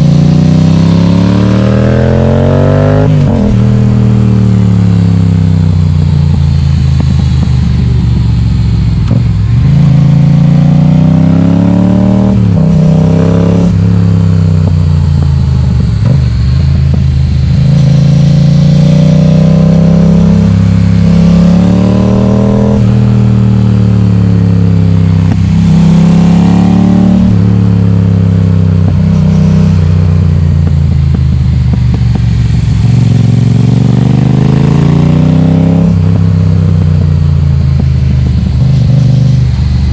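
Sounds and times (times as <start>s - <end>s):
motorcycle engine revving loudly: 0.0s - 39.9s.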